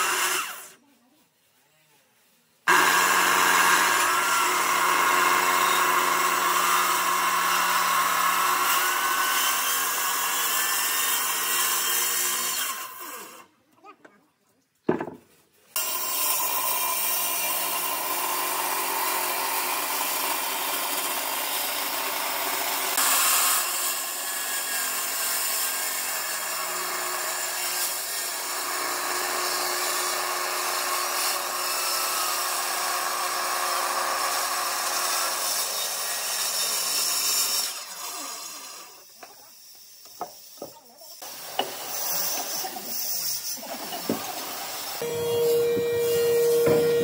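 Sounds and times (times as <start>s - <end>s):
power tool cutting wood: 0.0s - 0.8s, 2.7s - 13.5s, 15.8s - 47.0s.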